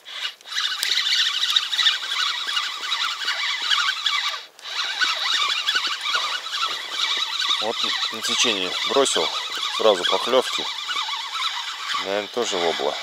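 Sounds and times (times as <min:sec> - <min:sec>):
fishing reel cranking: 0:00.0 - 0:13.0.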